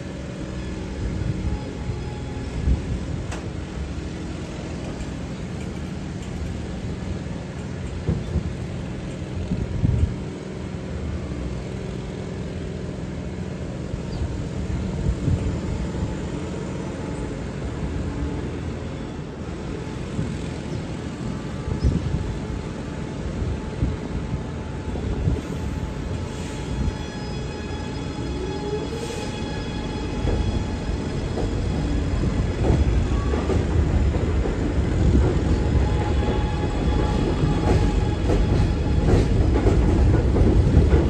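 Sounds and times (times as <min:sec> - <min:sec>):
subway train humming: 0:00.0 - 0:41.0.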